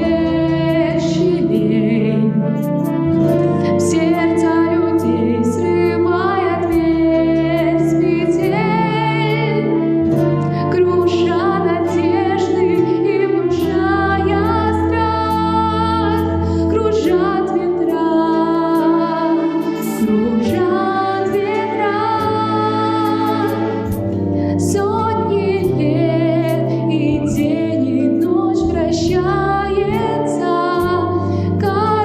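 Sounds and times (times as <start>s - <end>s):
instrumental backing track: 0.0s - 32.0s
woman singing slow song: 0.0s - 32.0s.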